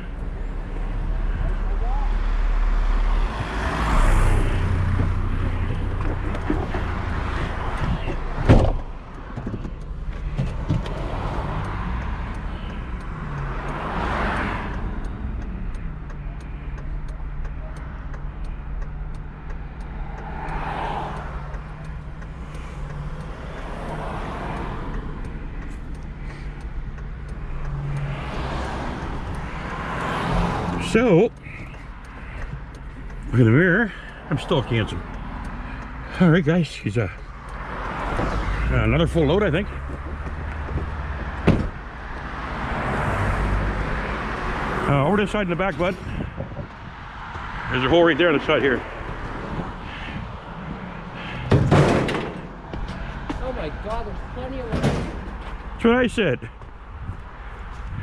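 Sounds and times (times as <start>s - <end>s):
truck engine humming: 0.0s - 58.0s.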